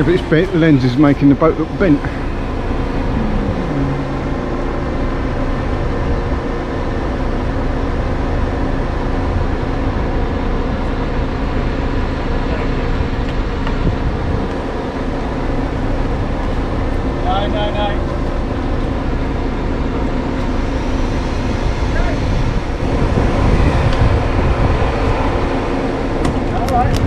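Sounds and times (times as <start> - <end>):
large vehicle engine humming: 0.0 - 27.0.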